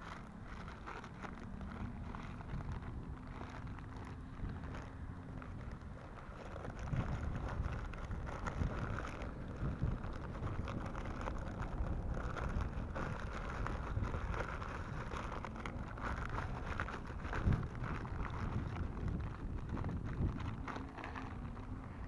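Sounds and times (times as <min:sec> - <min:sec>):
plastic and fabric rustling: 0:00.0 - 0:22.0
wind buffeting microphone: 0:00.0 - 0:22.0.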